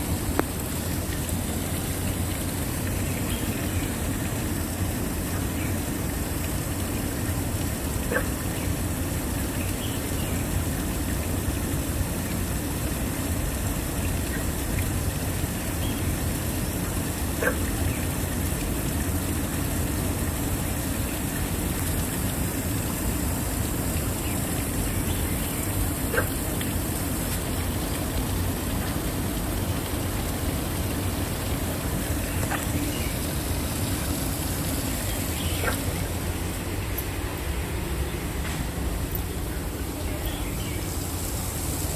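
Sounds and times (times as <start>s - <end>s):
waterfall roaring: 0.0s - 41.9s.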